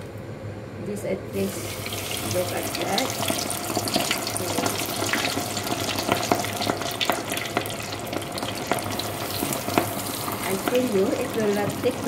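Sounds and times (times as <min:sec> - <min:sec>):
chicken deep-frying in oil: 0:01.4 - 0:12.0.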